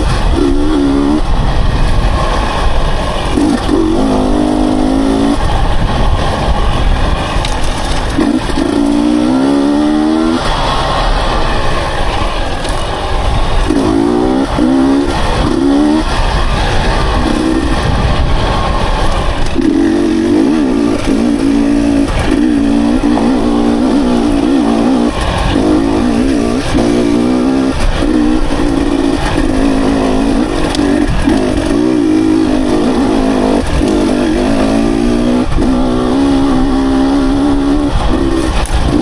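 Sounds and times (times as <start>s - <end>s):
dirt bike engine revving: 0.0s - 39.0s
wind rumble on microphone: 0.0s - 39.0s.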